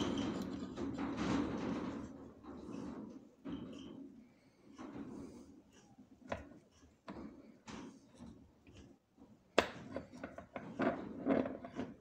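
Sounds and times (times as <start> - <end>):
small knocks and rattles: 0.0 - 12.0.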